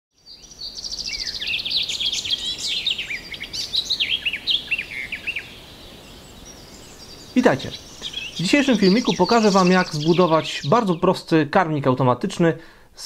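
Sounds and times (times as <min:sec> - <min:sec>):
songbird trilling and chirping: 0:00.2 - 0:11.3.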